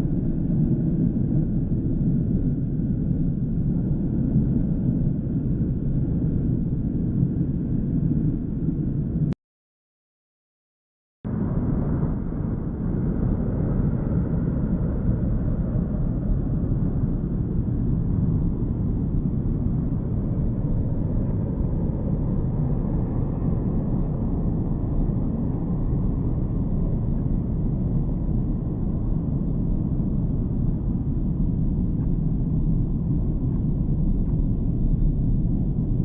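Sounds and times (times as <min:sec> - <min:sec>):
jet airliner engine rumble: 0:00.0 - 0:09.4, 0:11.3 - 0:36.0.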